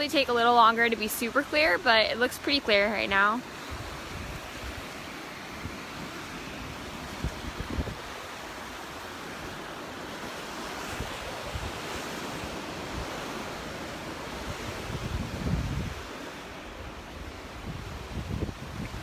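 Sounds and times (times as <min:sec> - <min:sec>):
surf washing onto beach: 0:00.0 - 0:19.0
wind buffeting microphone: 0:01.4 - 0:09.6, 0:10.6 - 0:19.0.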